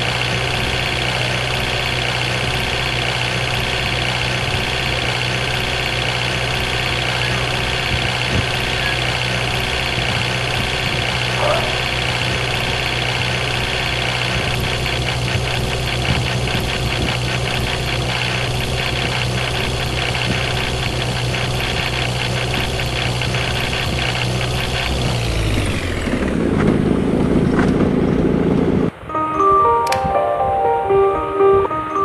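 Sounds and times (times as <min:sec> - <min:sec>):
vehicle engine running: 0:00.0 - 0:29.0
low engine rumble: 0:00.0 - 0:32.0.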